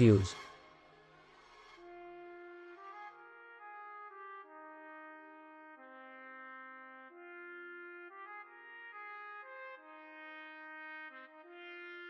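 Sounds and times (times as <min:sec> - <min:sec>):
slow brass or synth melody: 0:00.0 - 0:12.0.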